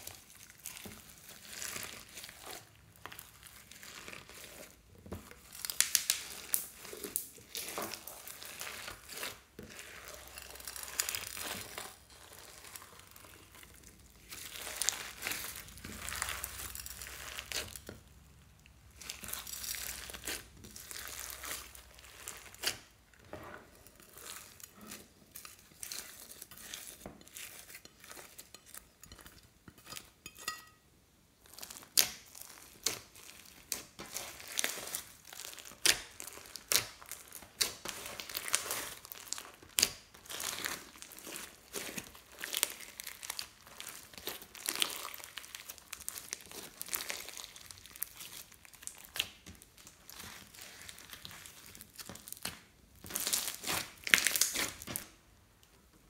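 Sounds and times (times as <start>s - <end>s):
slime squishing and crackling: 0.0s - 29.2s, 31.4s - 55.2s.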